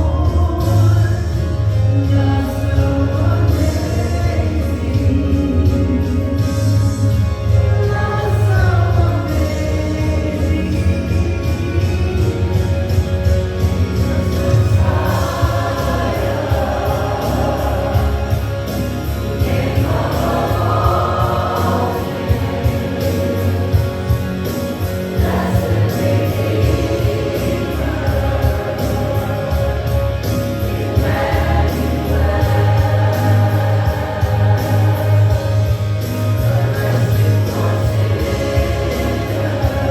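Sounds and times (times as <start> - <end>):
group singing gospel music: 0.0 - 39.9.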